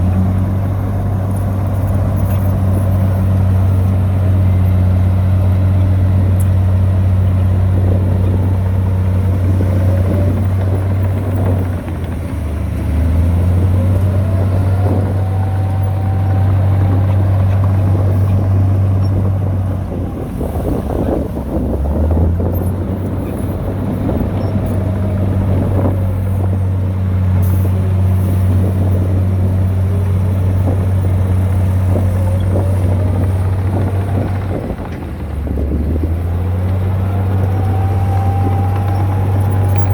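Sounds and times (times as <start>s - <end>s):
diesel engine running low: 0.0s - 39.9s.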